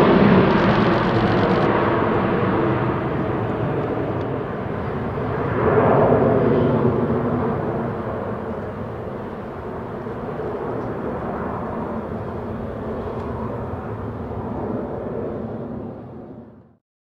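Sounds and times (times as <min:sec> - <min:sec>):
jet engines at takeoff: 0:00.0 - 0:16.8.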